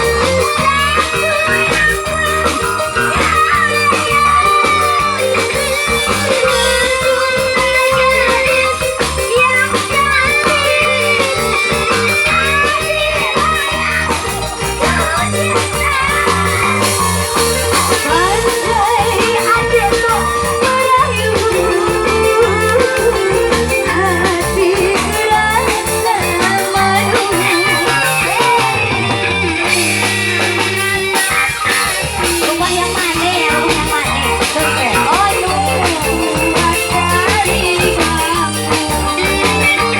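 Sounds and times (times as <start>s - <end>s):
band music: 0.0s - 39.9s
bending melody line: 0.0s - 39.9s
drum beat: 0.0s - 39.9s
guitar: 0.0s - 39.9s.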